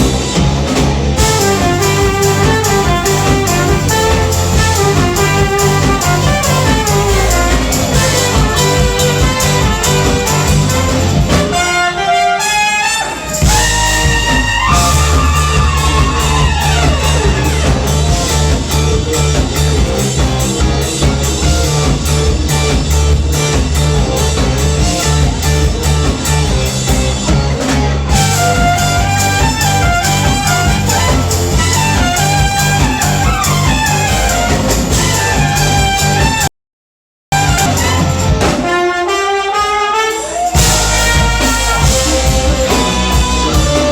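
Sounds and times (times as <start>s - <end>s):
heavy bass line: 0.0s - 11.7s, 13.4s - 36.5s, 37.3s - 38.6s, 40.6s - 43.9s
live band with horns: 0.0s - 36.5s, 37.3s - 43.9s.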